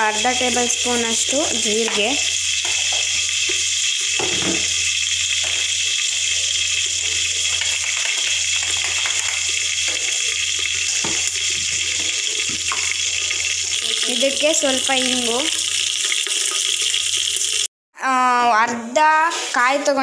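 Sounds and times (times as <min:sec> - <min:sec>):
hot oil sizzling: 0:00.0 - 0:17.7.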